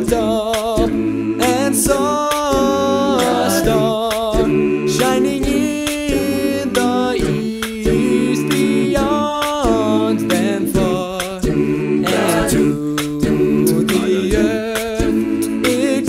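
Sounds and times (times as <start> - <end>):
group singing close harmony: 0.0 - 16.0.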